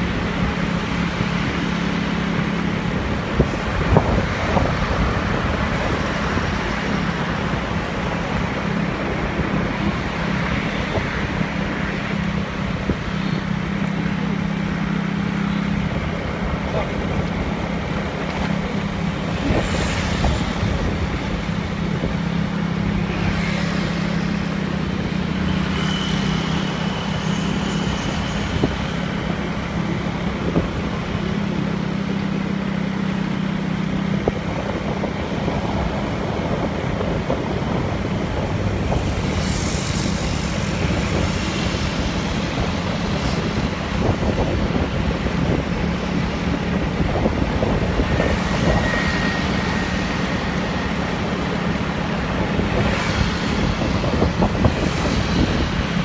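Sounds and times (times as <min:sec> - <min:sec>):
vehicle engine hum: 0:00.0 - 0:56.0
wind and road noise: 0:00.0 - 0:56.0.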